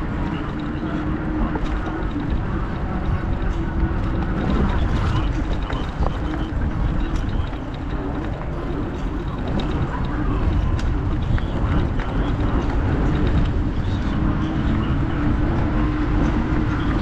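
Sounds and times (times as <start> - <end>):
road and wind rumble: 0.0 - 17.0.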